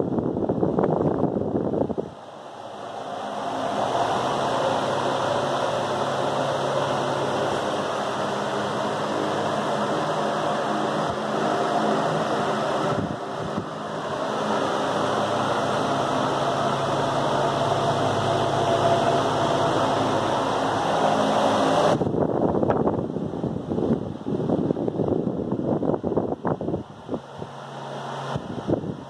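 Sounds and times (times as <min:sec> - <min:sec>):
wall fan running: 0:00.0 - 0:29.0.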